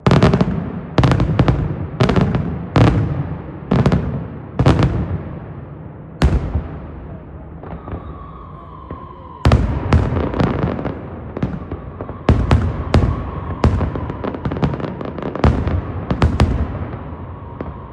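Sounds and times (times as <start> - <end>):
fireworks bangs with echo: 0.0 - 17.9.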